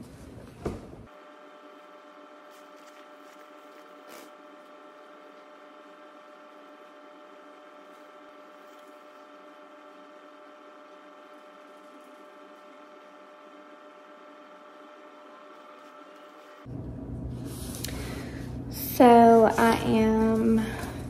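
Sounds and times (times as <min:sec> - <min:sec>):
faint machine hum: 0:00.0 - 0:21.0.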